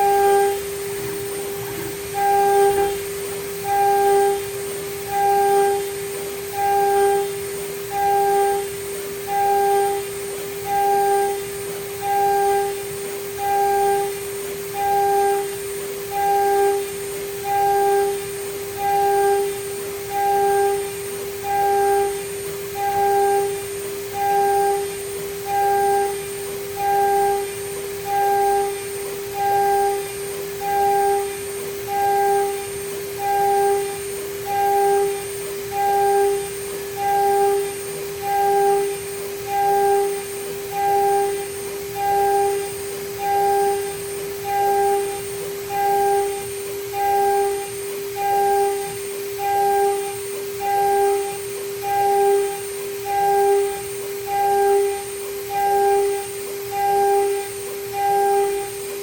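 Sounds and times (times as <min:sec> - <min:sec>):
higher machine tone: 0:00.0 - 0:59.0.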